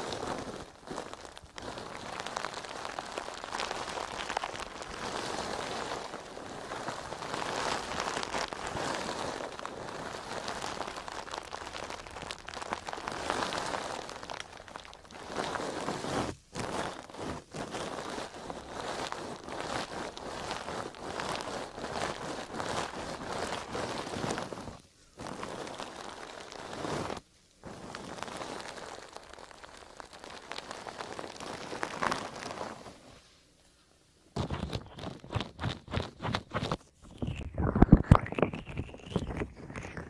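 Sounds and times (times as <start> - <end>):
sponge crackling close to microphone: 0.0 - 40.0.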